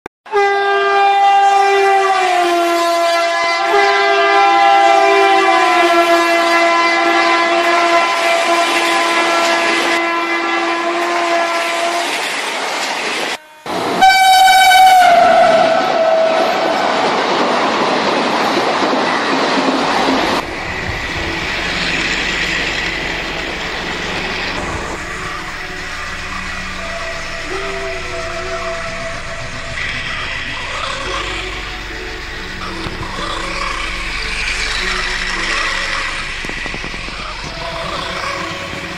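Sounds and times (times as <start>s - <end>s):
toy train horn blast: 0.3s - 12.2s, 13.4s - 16.8s, 20.4s - 38.9s.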